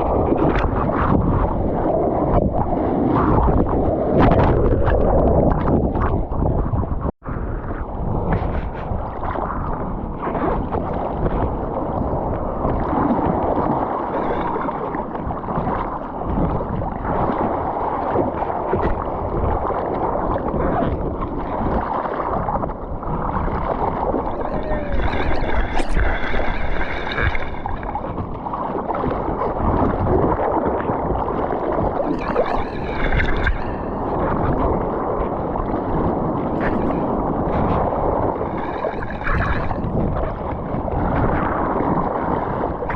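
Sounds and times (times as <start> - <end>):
ocean water splashing: 0.0 - 42.9
wind buffeting microphone: 0.0 - 42.9.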